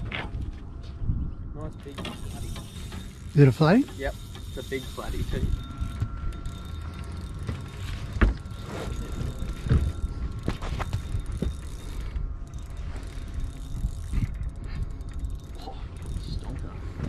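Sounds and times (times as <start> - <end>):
fishing reel ticking and whirring: 1.6 - 17.0.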